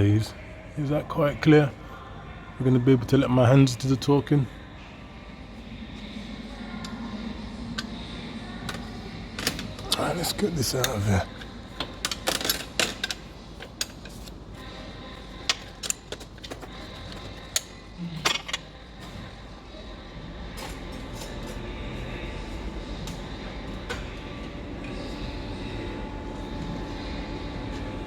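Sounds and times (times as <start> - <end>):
steady background rumble: 0.0 - 28.0.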